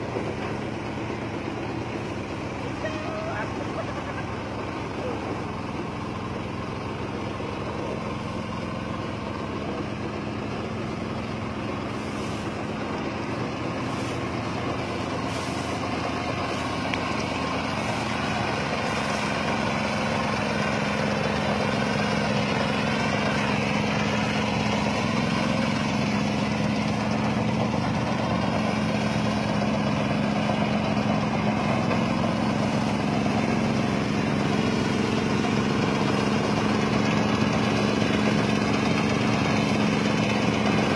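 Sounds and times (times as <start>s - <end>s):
motor engine running: 0.0s - 40.9s.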